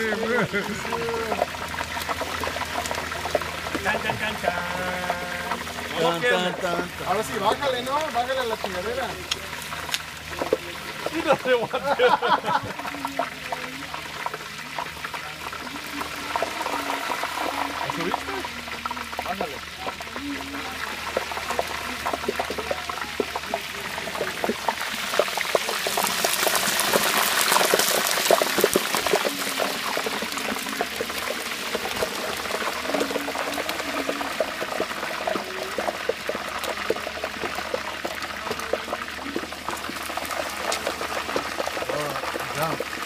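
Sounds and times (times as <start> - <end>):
hot oil bubbling and crackling: 0.0 - 43.0
liquid pouring: 0.0 - 43.0.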